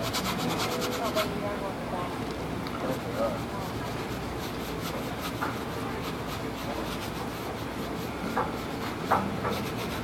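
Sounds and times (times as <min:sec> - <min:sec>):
paintbrush scratching on canvas: 0:00.0 - 0:01.3, 0:02.8 - 0:10.0.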